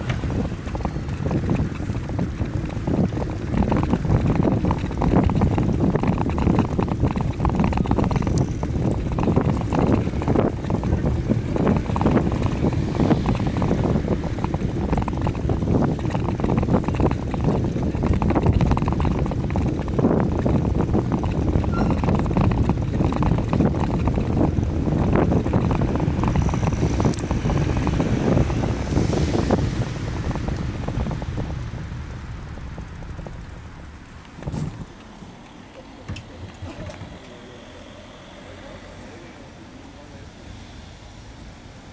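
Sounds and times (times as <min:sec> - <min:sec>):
wind buffeting microphone: 0:00.0 - 0:38.3.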